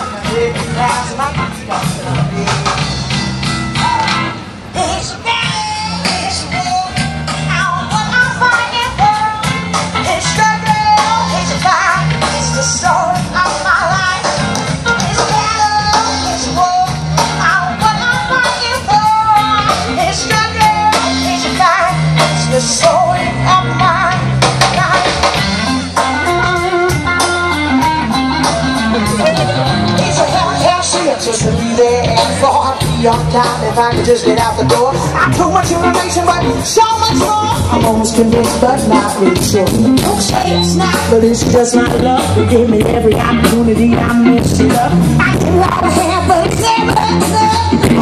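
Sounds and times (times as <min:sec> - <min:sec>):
rock band playing: 0:00.0 - 0:48.0
person singing: 0:03.7 - 0:48.0.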